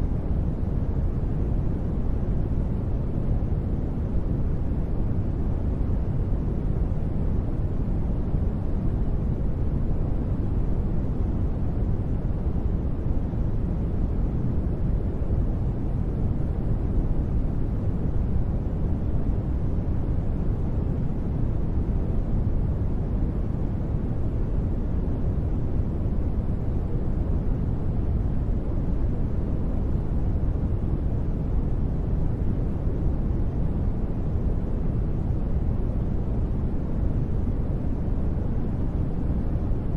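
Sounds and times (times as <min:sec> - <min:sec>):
deep steady white noise: 0:00.0 - 0:39.9.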